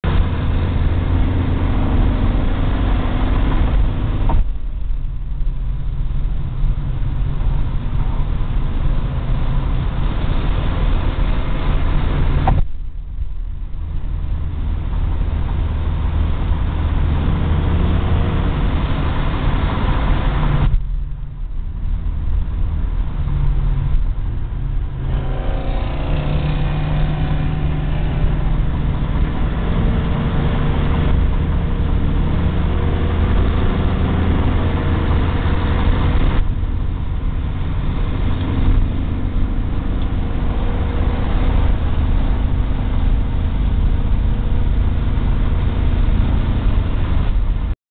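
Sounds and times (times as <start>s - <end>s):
car engine inside cabin: 0.0s - 47.8s
road noise: 0.0s - 47.8s.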